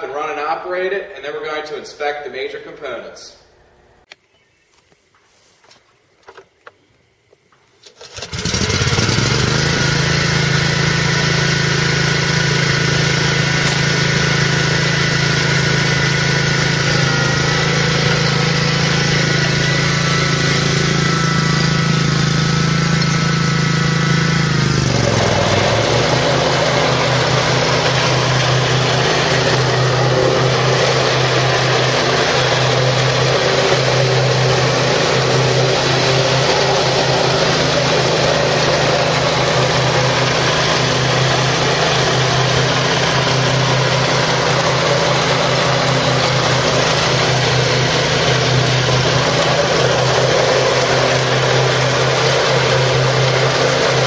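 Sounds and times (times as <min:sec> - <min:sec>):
lawn mower engine running: 0:06.2 - 0:54.0.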